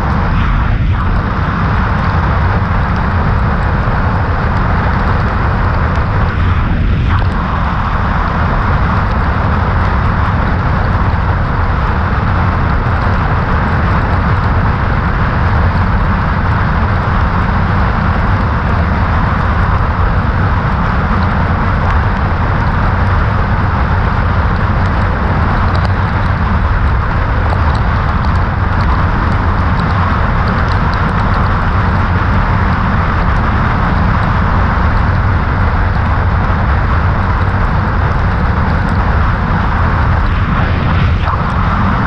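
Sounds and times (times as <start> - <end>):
motorcycle engine at speed: 0.0 - 42.0
wind rushing over microphone: 0.0 - 42.0.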